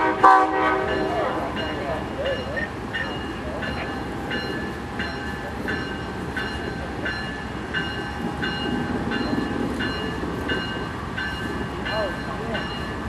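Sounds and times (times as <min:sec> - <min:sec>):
locomotive warning bell ringing: 0:00.0 - 0:13.0.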